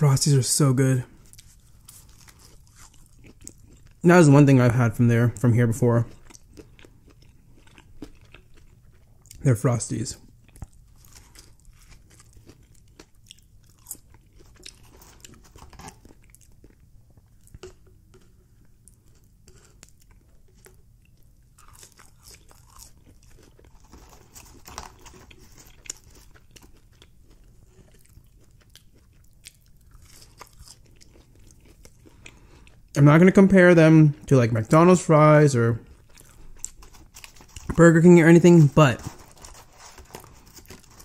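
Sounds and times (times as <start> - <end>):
crunchy chewing: 1.2 - 4.0, 6.0 - 9.4, 10.2 - 33.0, 35.8 - 41.0.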